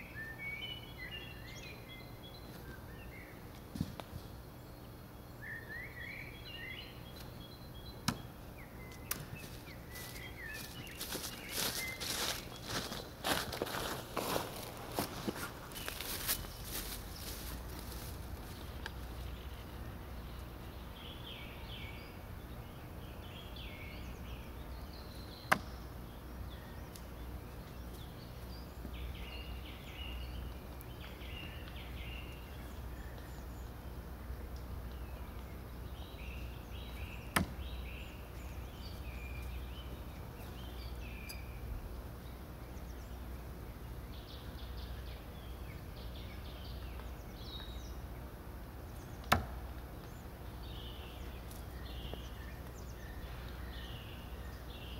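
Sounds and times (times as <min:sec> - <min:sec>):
birds chirping faintly: 0:00.0 - 0:54.9
low steady hum: 0:00.0 - 0:54.9.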